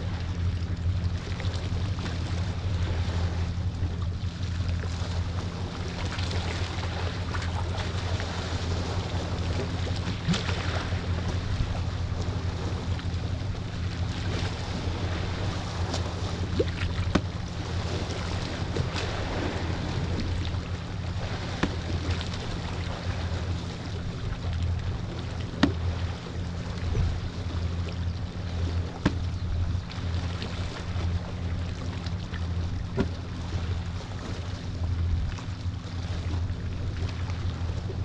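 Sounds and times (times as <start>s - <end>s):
boat engine droning: 0.0s - 38.0s
waves: 0.0s - 38.0s.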